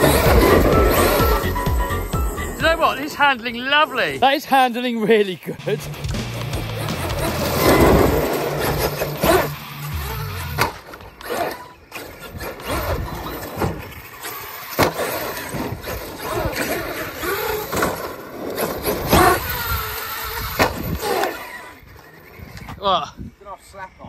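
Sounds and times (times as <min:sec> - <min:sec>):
tyre noise on asphalt: 0:00.0 - 0:03.3, 0:05.6 - 0:22.8
electric motor whining: 0:00.0 - 0:04.4, 0:05.6 - 0:22.9.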